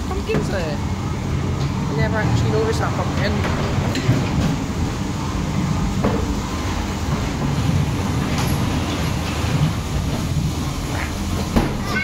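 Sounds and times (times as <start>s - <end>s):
ride car rumbling on track: 0.0s - 12.0s.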